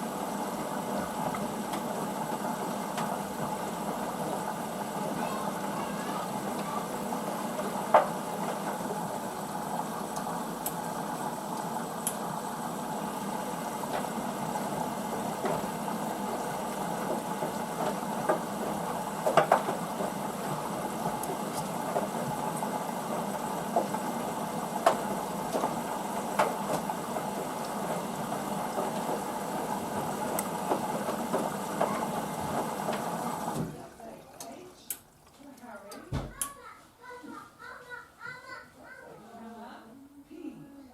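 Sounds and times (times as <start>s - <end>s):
washing machine hum: 0.0s - 40.9s.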